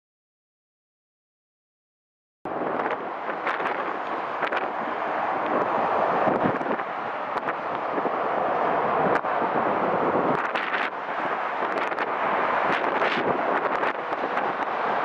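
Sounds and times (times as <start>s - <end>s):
gusty wind buffeting microphone: 2.5s - 15.0s.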